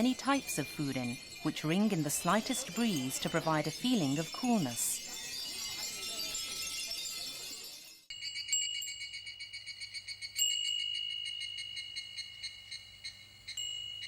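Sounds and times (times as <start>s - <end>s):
wind bell tinkling: 0.0s - 14.0s.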